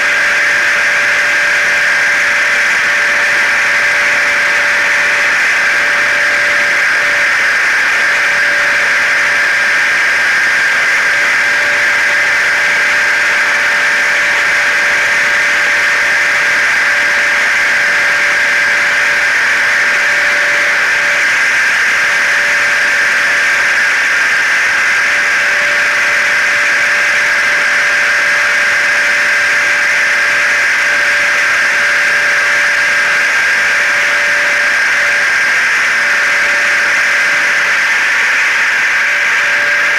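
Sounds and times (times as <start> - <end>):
steady whining tones: 0.0 - 39.9
white noise drone: 0.0 - 39.9.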